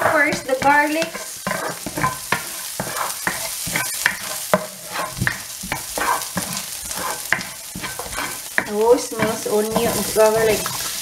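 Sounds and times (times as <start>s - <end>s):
garlic sizzling in hot oil: 0.0s - 11.0s
spatula scraping frying pan: 0.0s - 11.0s.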